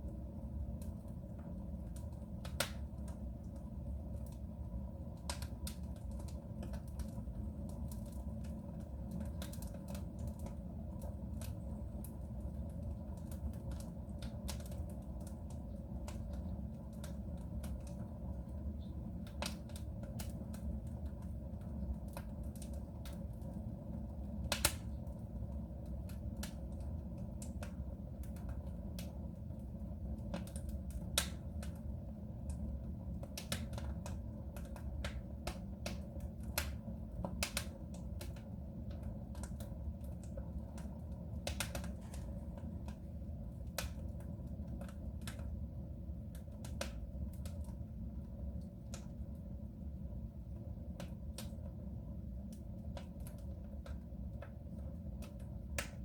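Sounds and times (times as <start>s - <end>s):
low rumble of burning fire: 0.0s - 56.0s
wood fire crackling and popping: 0.0s - 56.0s.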